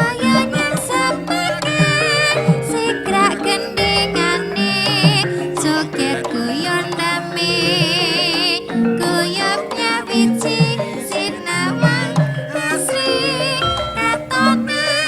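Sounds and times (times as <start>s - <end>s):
drum strokes: 0.0s - 15.0s
sustained metal tones: 0.0s - 15.0s
wavering melody with vibrato: 0.0s - 15.0s.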